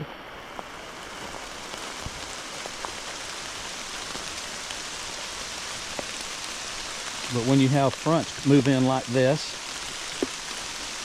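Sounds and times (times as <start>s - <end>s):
heavy rain falling through trees: 0.0s - 11.0s.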